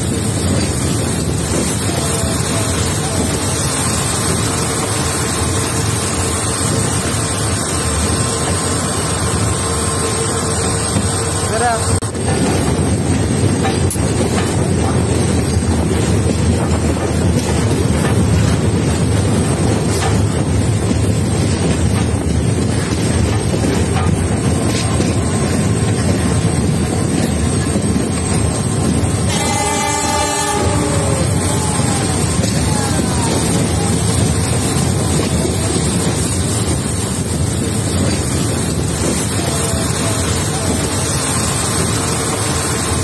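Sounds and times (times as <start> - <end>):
moving train rumble: 0.0 - 43.0
wind buffeting microphone: 0.0 - 43.0.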